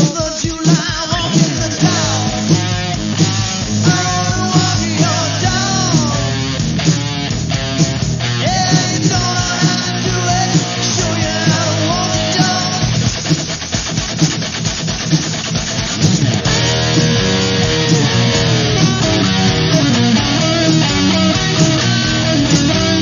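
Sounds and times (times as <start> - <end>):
rock band playing: 0.0 - 23.0
electric guitar bending notes: 1.2 - 23.0.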